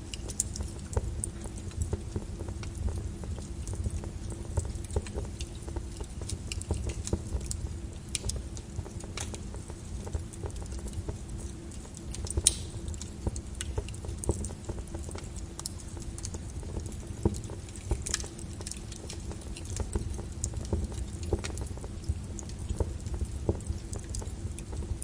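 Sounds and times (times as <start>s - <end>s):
lava crackling and popping: 0.0s - 25.0s.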